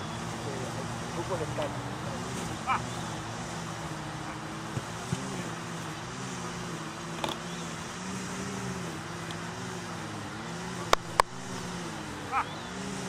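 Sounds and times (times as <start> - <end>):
string trimmer engine running: 0.0 - 13.0.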